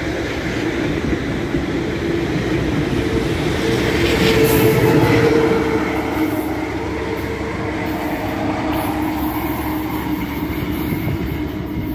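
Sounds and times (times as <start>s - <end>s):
diesel locomotive engine drone: 0.0s - 11.9s.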